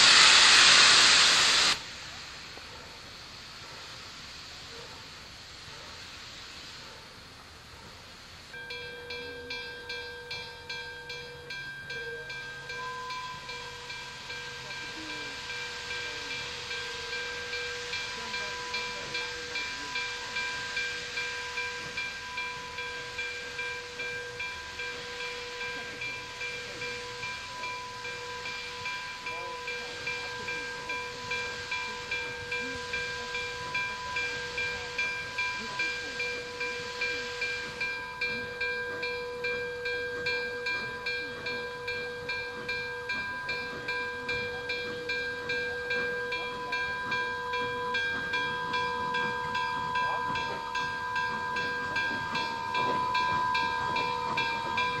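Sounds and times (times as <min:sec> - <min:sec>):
steam hissing: 0:00.0 - 0:55.0
steam locomotive bell ringing: 0:00.0 - 0:55.0.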